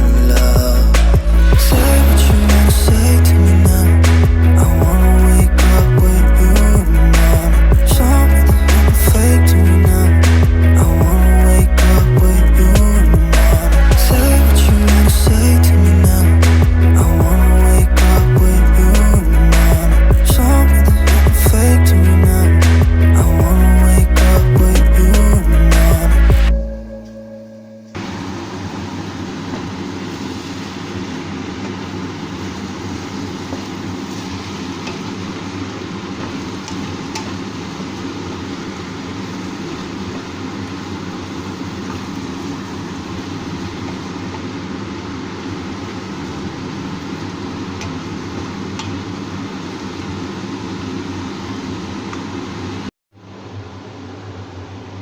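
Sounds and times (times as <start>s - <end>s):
machine whirring with low hum: 0.0s - 55.0s.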